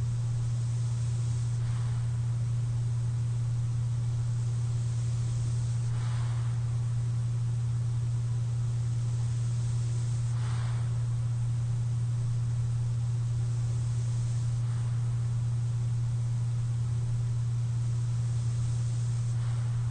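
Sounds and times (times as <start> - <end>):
faint airy breathing: 0.0 - 19.9
steady low hum: 0.0 - 19.9.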